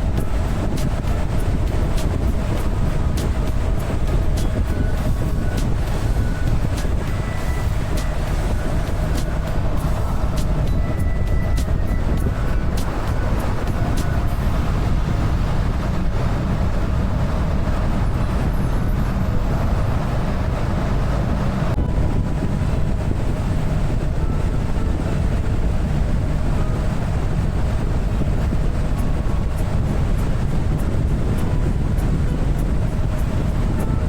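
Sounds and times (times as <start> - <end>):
motorcycle engine rumbling: 0.0 - 34.0
wind and road noise: 0.0 - 34.0.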